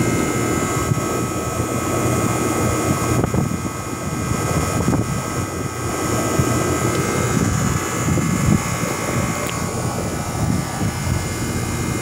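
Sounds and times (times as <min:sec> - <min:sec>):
air conditioner unit running: 0:00.0 - 0:12.0.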